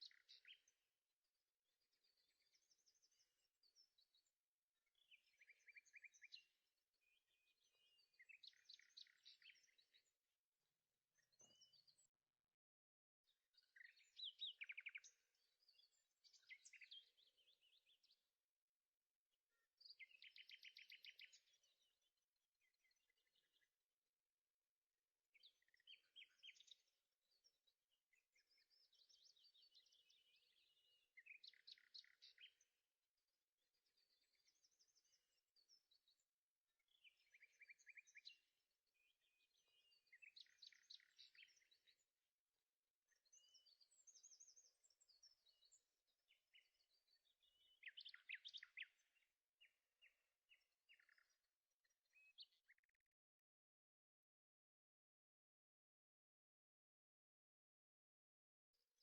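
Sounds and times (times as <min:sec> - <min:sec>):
faint songbird singing: 0:00.0 - 0:59.0.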